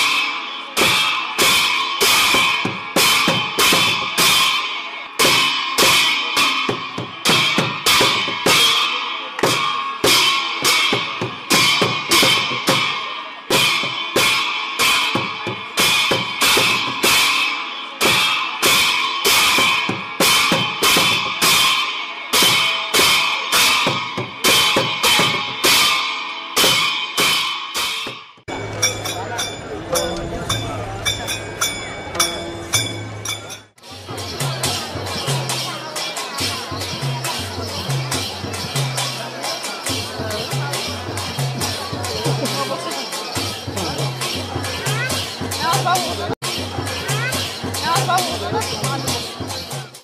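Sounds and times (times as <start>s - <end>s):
fast percussive music beat: 0.0s - 4.6s, 5.2s - 50.0s
continuous metallic ringing: 0.0s - 50.0s.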